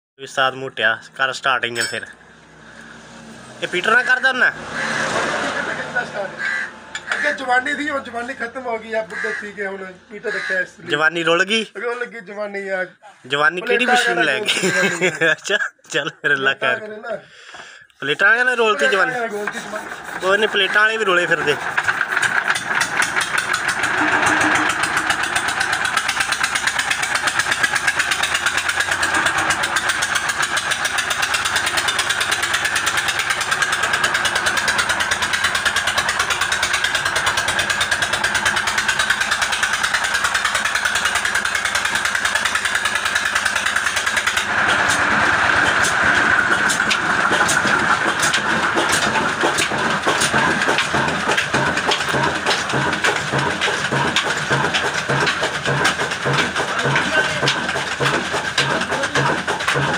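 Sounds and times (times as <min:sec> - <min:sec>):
diesel engine running: 0:01.0 - 0:09.2, 0:18.0 - 0:59.9.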